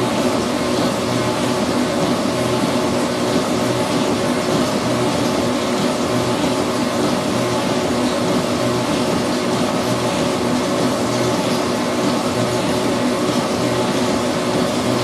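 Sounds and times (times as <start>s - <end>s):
machine humming and whirring: 0.0s - 15.0s.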